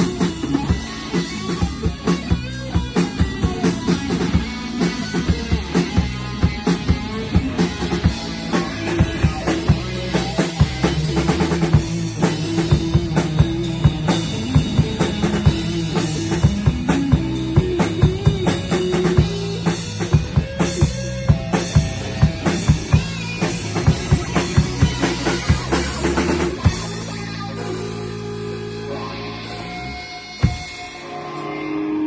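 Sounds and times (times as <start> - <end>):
live rock band playing: 0.0 - 32.0.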